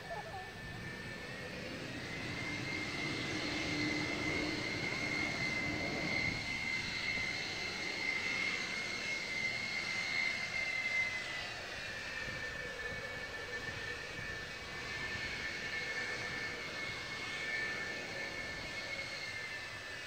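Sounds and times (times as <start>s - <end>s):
jet engine rushing roar: 0.0s - 20.0s
jet engine turbine whine: 0.0s - 20.0s.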